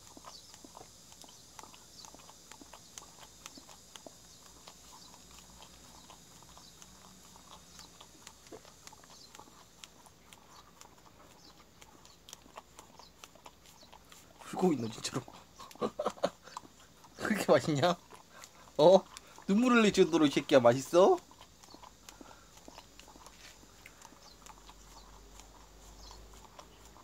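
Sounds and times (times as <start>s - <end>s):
dog licking wet smacking: 0.0s - 27.0s.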